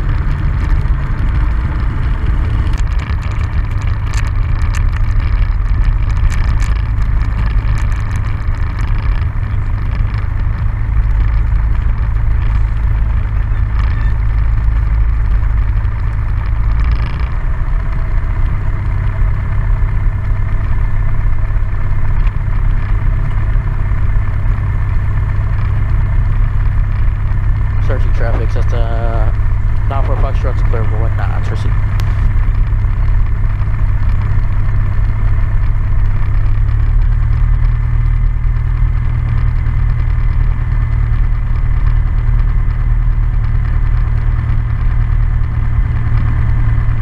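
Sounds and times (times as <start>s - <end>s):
propeller plane engine idling: 0.0s - 47.0s.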